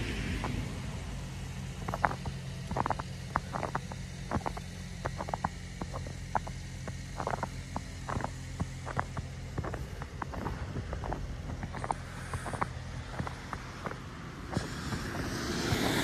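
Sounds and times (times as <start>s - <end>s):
car passing: 0.0s - 16.0s
steady low hum: 0.0s - 16.0s
footsteps crunching in snow: 0.4s - 16.0s.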